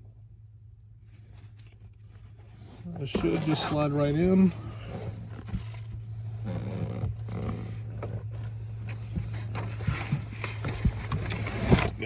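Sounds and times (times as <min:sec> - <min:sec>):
steady low hum: 0:00.0 - 0:12.0
plastic rustling and scraping: 0:01.1 - 0:12.0.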